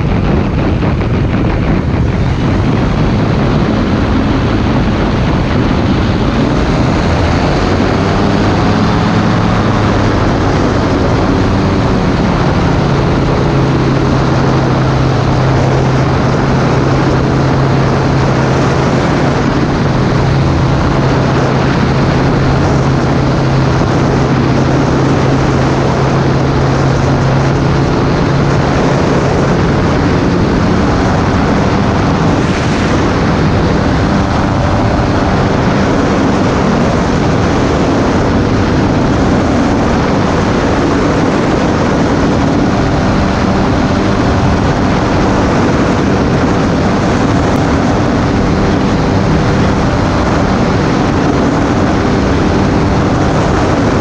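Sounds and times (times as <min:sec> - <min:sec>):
microlight engine droning: 0:00.0 - 0:54.0
wind rushing over microphone: 0:00.0 - 0:54.0.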